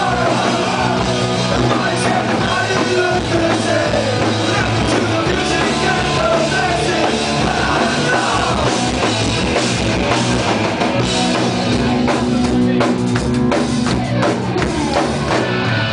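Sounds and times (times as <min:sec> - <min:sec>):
punk band playing live: 0:00.0 - 0:15.9.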